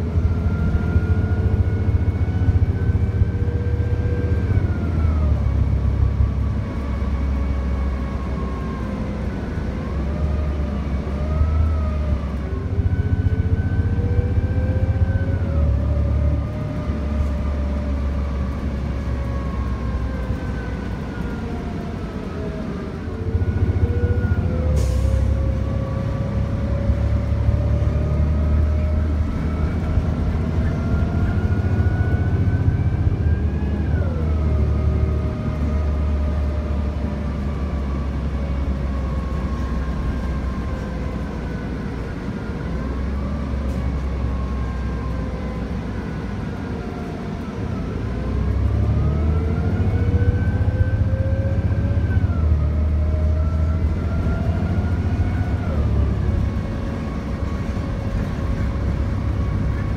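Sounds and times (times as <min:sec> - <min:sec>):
bus engine rumble and whine: 0:00.0 - 0:59.9.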